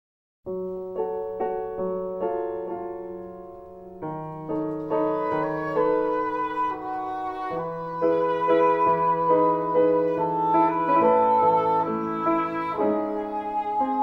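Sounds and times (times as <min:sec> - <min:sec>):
slow piano melody: 0:00.5 - 0:14.0.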